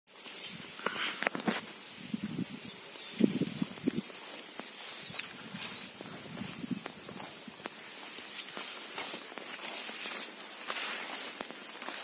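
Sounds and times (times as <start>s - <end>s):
insects trilling: 0.1s - 12.0s
rustles and steps through grass: 0.1s - 12.0s.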